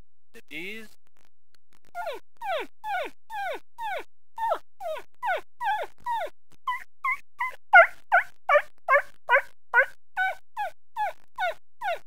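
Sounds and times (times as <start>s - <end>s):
person imitating puppy yelps: 2.0s - 12.0s.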